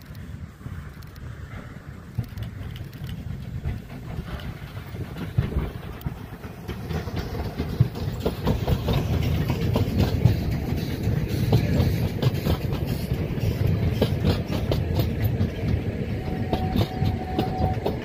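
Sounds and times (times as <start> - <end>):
steam train passing: 0.0 - 18.0
wheels clacking over rail joints: 0.0 - 18.0.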